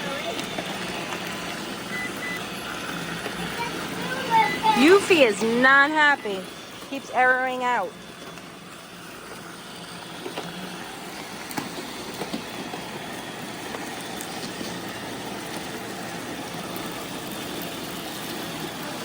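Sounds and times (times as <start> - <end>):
robot vacuums whirring: 0.0 - 19.0.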